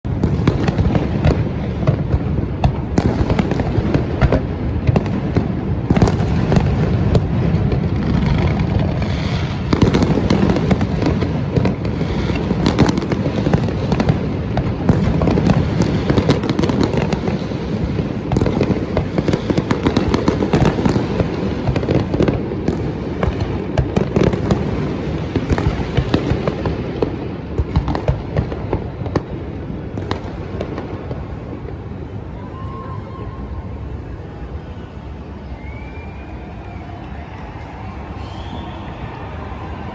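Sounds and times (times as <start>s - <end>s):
fireworks bangs and crackling: 0.1s - 36.3s.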